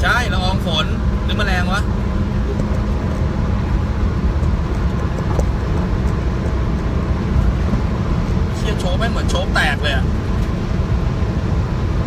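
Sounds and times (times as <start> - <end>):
car engine at high revs: 0.0 - 12.0
road and wind noise: 0.0 - 12.0.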